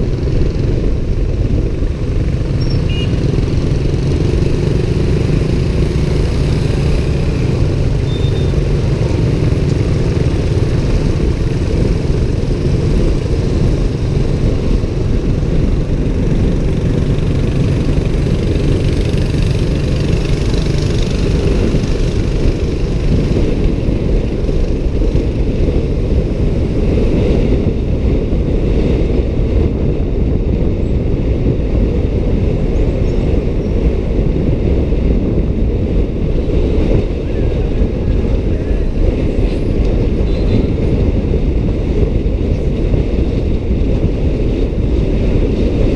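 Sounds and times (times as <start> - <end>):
motorbike engine rumble: 0.0 - 45.9
road noise: 0.0 - 45.9.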